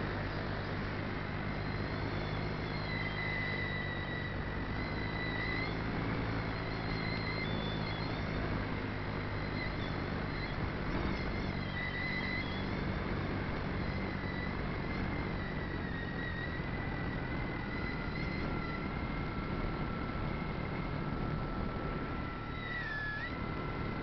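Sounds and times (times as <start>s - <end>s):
model aircraft motor whine: 0.0s - 24.0s.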